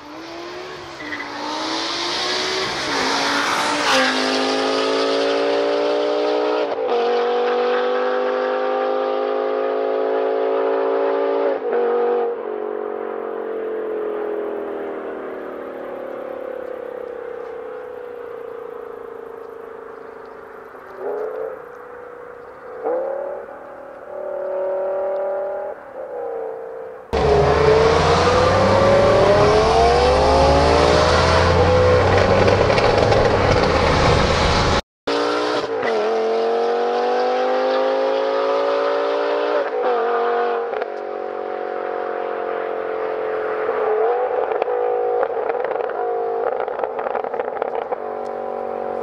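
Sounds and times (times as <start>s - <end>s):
car engine accelerating hard: 0.0s - 22.0s, 27.1s - 49.0s.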